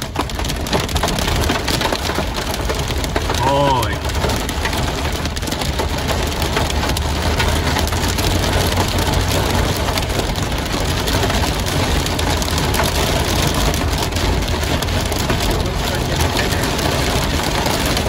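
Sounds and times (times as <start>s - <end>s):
hail and rain pelting vehicle: 0.0s - 18.0s
vehicle rumbling on road: 0.0s - 18.0s.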